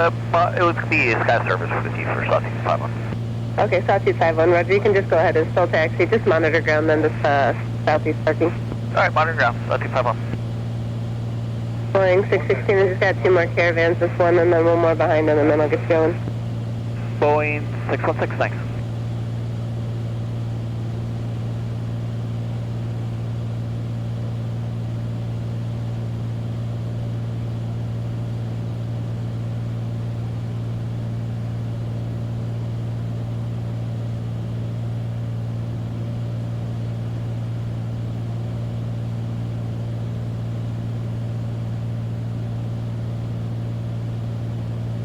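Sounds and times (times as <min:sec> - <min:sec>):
propeller plane engine drone: 0:00.0 - 0:45.0.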